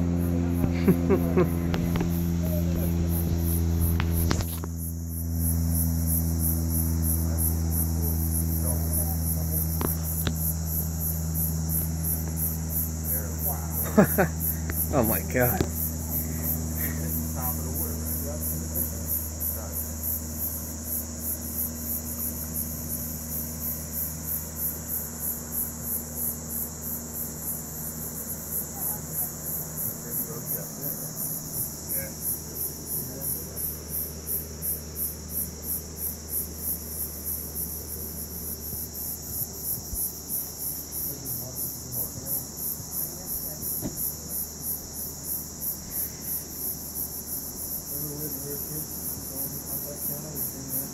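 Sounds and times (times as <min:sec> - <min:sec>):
crickets chirping: 0:00.0 - 0:50.9
low steady hum: 0:00.0 - 0:50.9.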